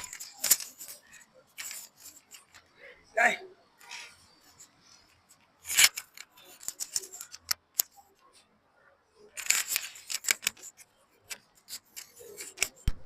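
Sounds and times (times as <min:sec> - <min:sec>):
handling clicks and rustling: 0:00.0 - 0:08.5, 0:09.2 - 0:13.0.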